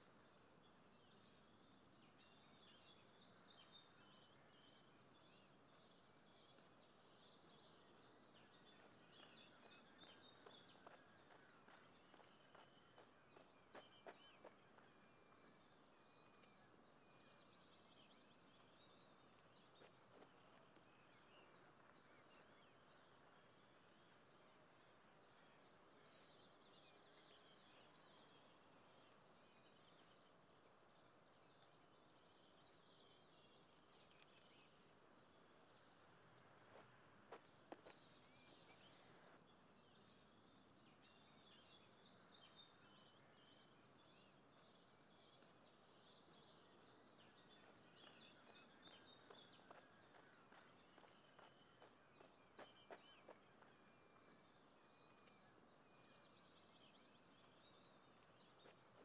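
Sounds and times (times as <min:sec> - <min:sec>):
birds chirping and trilling: 0:00.4 - 0:59.0.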